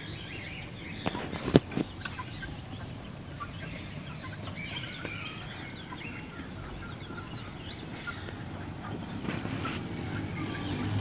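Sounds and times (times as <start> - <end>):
hens clucking softly: 0.9 - 11.0.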